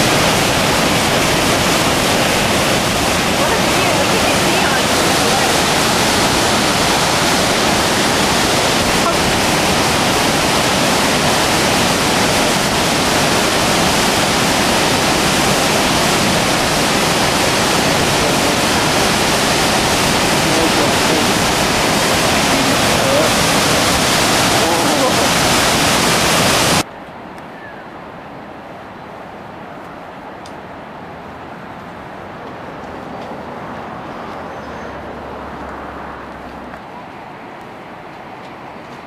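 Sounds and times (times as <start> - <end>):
rush of water: 0.0 - 39.0.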